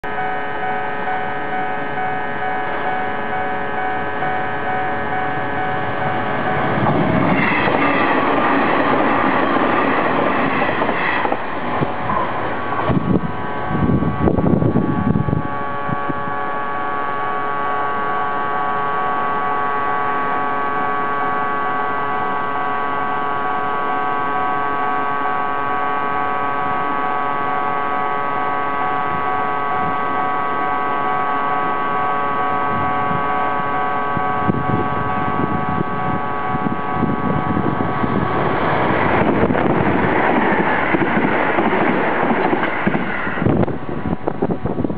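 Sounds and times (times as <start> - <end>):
train passing: 0.1 - 29.5, 30.1 - 44.9.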